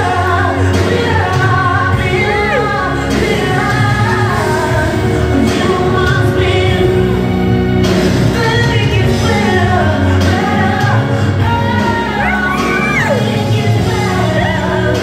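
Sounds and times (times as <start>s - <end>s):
worship song with singing voice: 0.0s - 15.0s.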